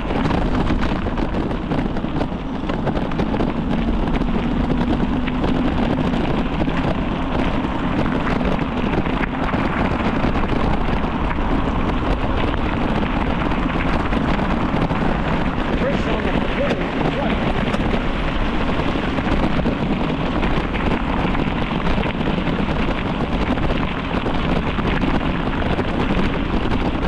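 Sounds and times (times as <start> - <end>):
tyres crackling on trail: 0.0 - 27.0
wind rumble on microphone: 0.0 - 27.0.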